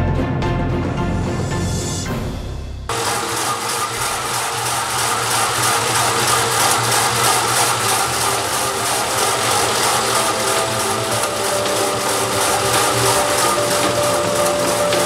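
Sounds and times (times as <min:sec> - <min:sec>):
vegetable cutting machine whirring: 0:02.9 - 0:15.0.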